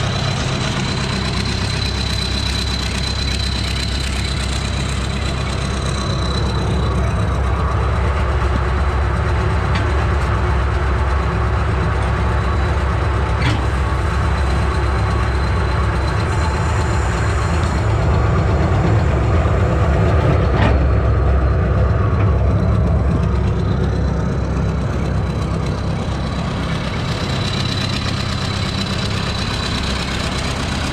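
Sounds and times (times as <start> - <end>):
wood chipper engine running: 0.0 - 30.9.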